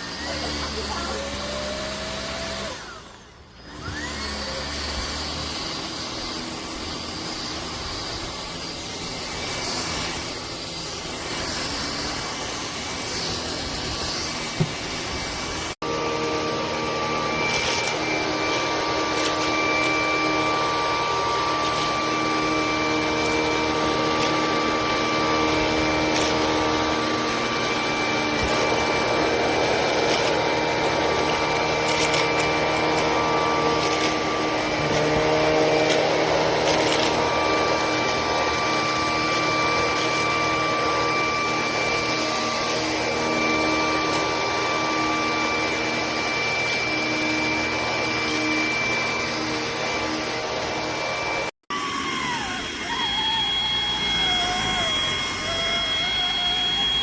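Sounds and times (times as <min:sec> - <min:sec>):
cordless vacuum running: 0:00.0 - 0:57.0.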